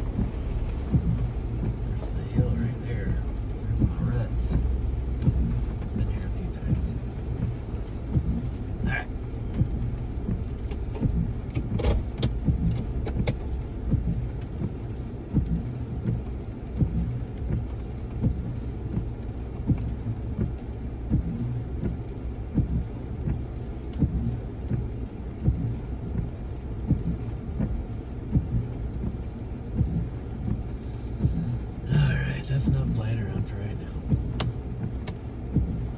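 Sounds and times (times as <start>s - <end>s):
engine and tyres rumbling: 0.0s - 35.9s.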